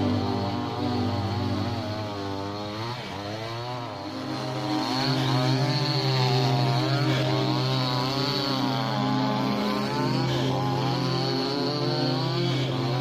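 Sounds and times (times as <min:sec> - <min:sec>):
chainsaw running: 0:00.0 - 0:13.0.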